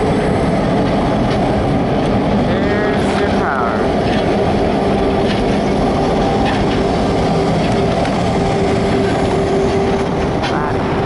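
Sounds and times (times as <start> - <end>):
diesel locomotive engine drone: 0.0 - 11.0
train wheels rumbling on rails: 0.0 - 11.0.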